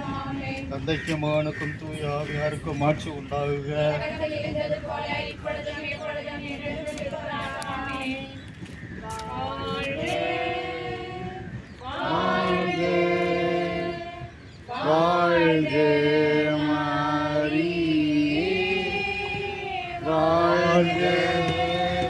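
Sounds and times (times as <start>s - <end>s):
group singing a hymn: 0.0s - 1.5s, 2.3s - 22.0s.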